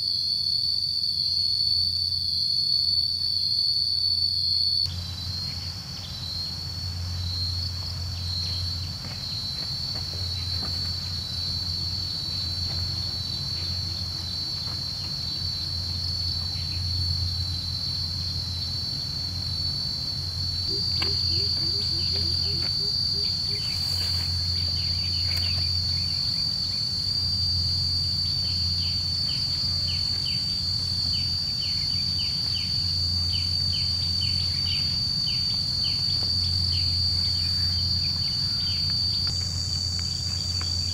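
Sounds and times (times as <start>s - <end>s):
insects droning: 0.0s - 40.9s
low hum: 3.5s - 40.9s.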